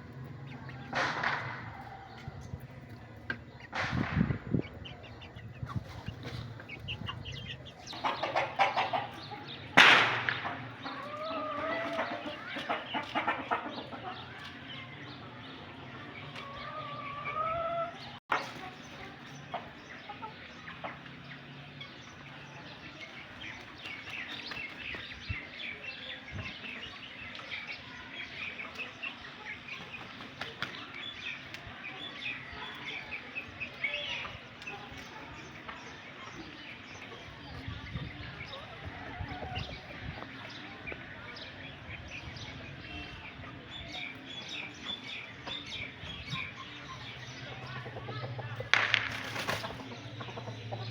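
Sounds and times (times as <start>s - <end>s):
chickens and roosters clucking: 0.0s - 50.9s.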